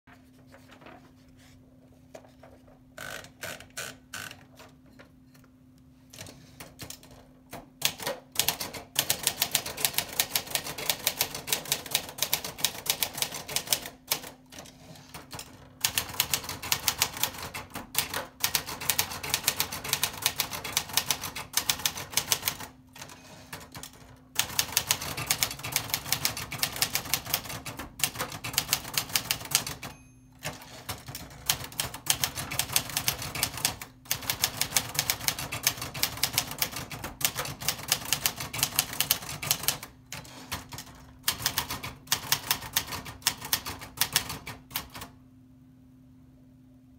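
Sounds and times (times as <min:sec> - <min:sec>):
typewriter clicks: 0:06.2 - 0:45.1
typewriter keys clacking: 0:06.2 - 0:45.1.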